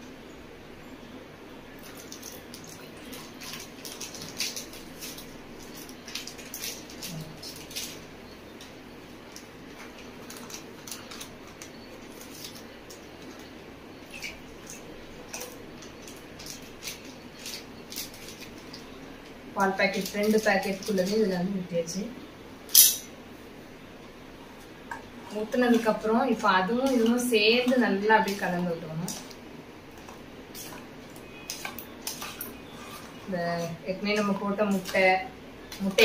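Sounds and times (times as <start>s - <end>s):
plastic packets crinkling: 1.8s - 21.3s, 25.3s - 36.0s.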